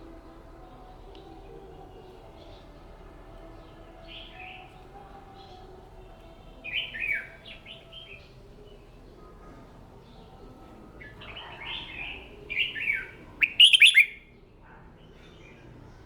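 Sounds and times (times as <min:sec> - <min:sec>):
bird singing warbled phrases: 0:00.0 - 0:14.4
faint steady hum: 0:00.0 - 0:14.8.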